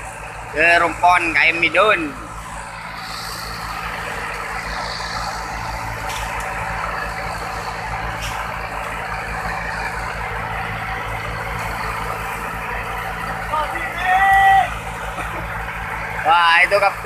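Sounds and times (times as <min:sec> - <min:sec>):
boat engine running: 0:00.0 - 0:17.0
water rushing along hull: 0:00.0 - 0:17.0.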